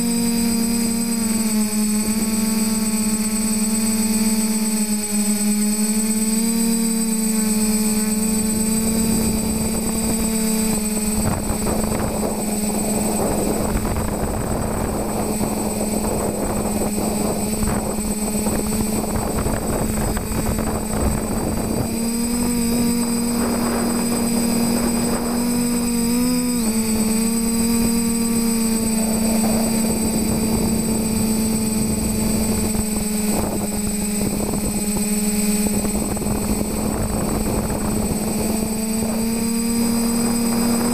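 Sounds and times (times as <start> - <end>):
quadcopter motors humming: 0.0 - 40.9.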